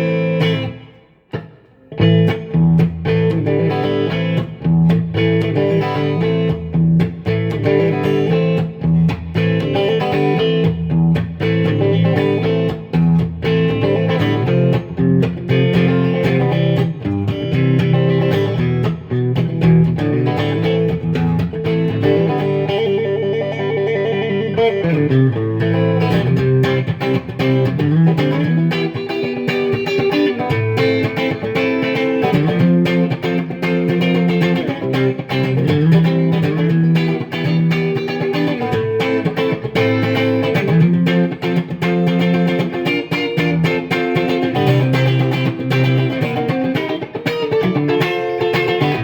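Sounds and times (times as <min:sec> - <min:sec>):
amplified electric guitar: 0:00.0 - 0:49.0.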